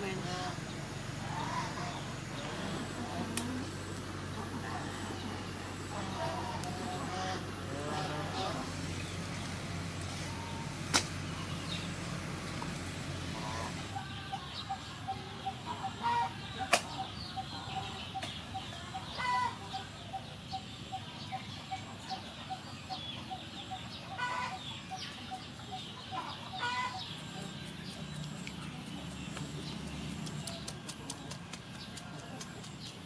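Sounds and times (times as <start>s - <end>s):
chickens clucking: 0.0s - 9.5s, 10.2s - 33.0s.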